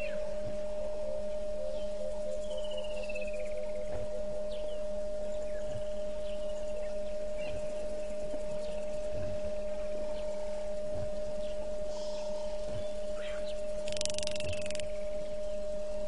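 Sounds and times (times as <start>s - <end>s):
faint bird chirps: 0.0s - 16.0s
high electrical hum: 0.0s - 16.0s.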